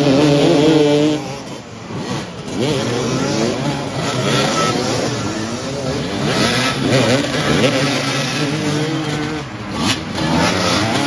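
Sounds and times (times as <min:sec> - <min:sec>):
motorcycles revving: 0:00.0 - 0:11.0.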